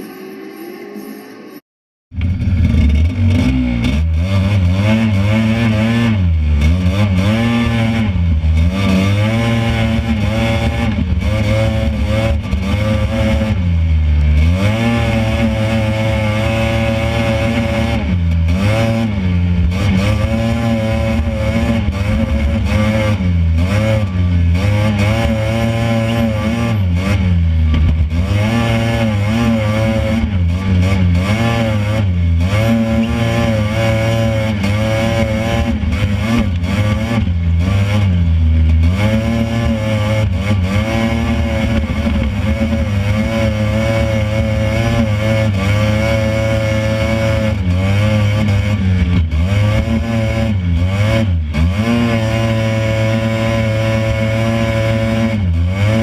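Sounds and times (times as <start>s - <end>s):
dune buggy engine revving: 2.1s - 56.0s.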